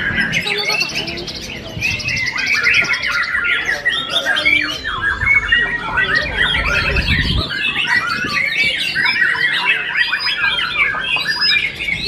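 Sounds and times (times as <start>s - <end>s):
songbirds singing in chorus: 0.0s - 12.0s.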